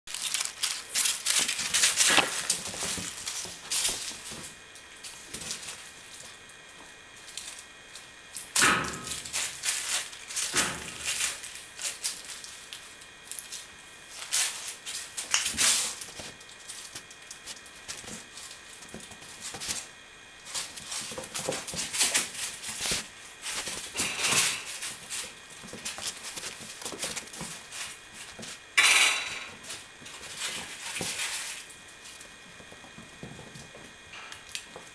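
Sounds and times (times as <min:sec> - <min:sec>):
kitten paws scampering on floor: 0:00.1 - 0:28.6, 0:29.5 - 0:34.9.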